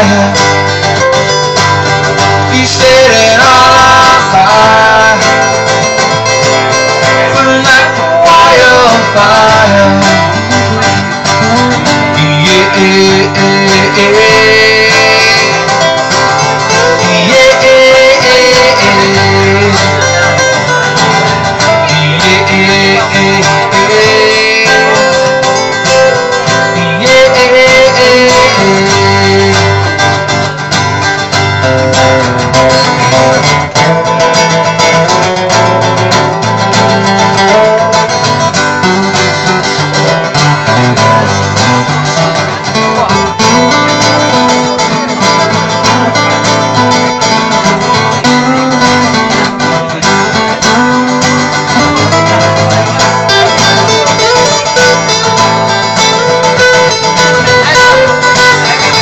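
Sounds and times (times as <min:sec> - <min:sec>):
acoustic guitar strumming: 0:00.0 - 0:59.0
guitar melody line: 0:00.0 - 0:59.0.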